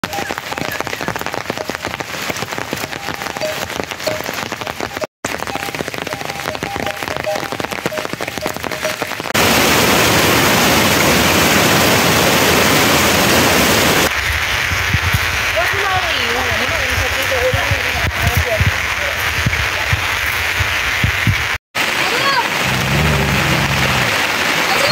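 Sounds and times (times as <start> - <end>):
rain pattering on plastic tarp: 0.0 - 24.9
rain hiss: 0.1 - 24.9.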